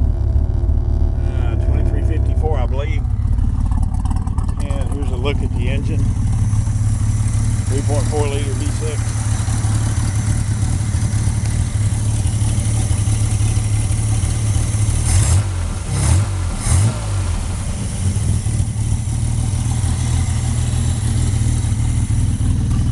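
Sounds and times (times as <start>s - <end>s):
engine idling: 0.0s - 22.9s
engine revving: 0.0s - 22.9s.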